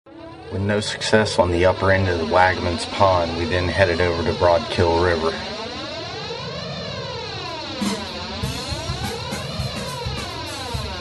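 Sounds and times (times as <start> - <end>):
swirling music sweep: 0.1 - 11.0.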